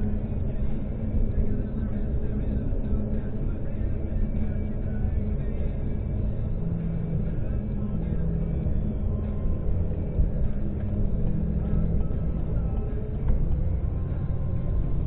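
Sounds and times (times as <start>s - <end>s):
tyres droning on steel grid: 0.0s - 15.0s.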